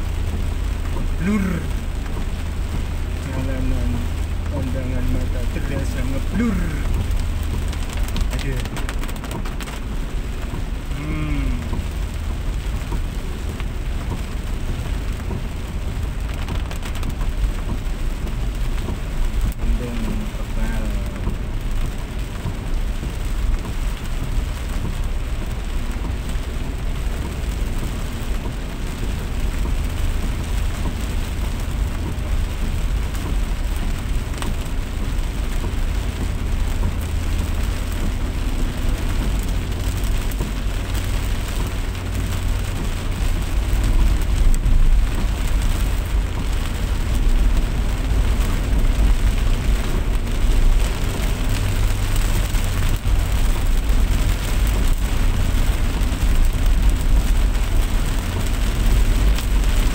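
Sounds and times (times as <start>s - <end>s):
deep rumble: 0.0s - 59.9s
steady rain: 0.0s - 59.9s.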